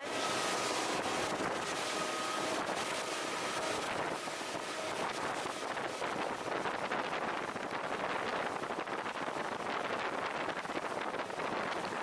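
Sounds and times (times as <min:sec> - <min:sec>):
outboard motor whine: 0:00.0 - 0:12.0
wind on microphone: 0:00.0 - 0:12.0.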